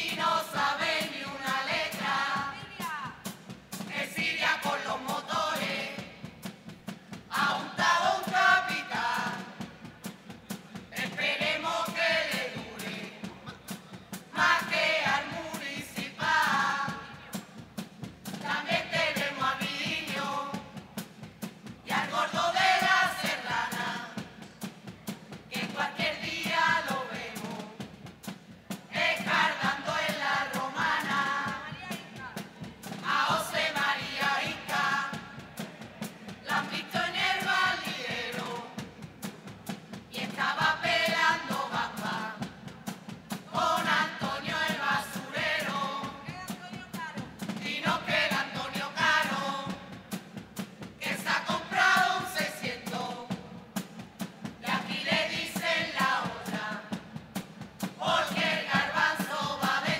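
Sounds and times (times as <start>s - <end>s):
chorus singing: 0.0s - 17.4s, 18.2s - 28.0s, 28.7s - 46.3s, 47.2s - 59.9s
steady drum beat: 0.0s - 59.9s.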